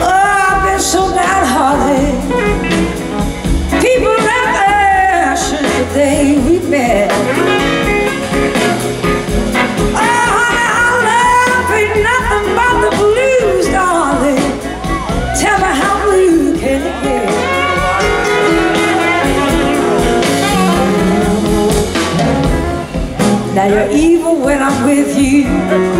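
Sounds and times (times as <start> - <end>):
bending lead guitar line: 0.0 - 25.9
live blues band playing: 0.0 - 25.9.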